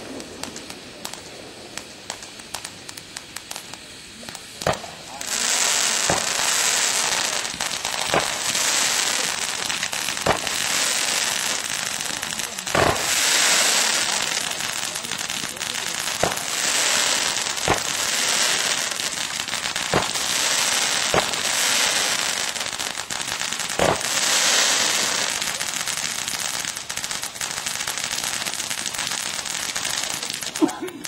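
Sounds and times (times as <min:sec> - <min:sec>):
firework bangs: 0:00.0 - 0:31.0
firework crackling hiss: 0:00.0 - 0:31.0.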